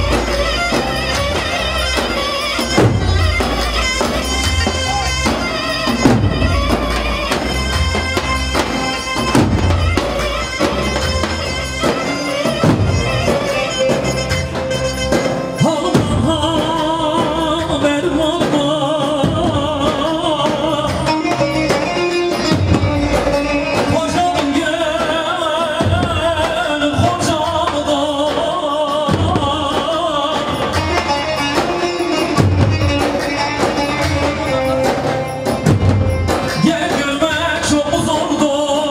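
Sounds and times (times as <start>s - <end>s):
low drum beat: 0.0s - 38.4s
ornamented lead melody: 0.0s - 38.9s.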